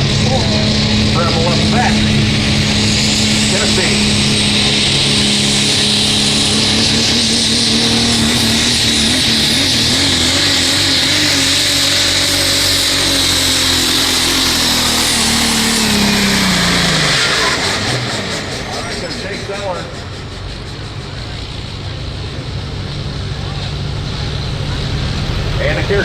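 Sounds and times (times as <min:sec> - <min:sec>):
diesel truck engine howling: 0:00.0 - 0:26.0.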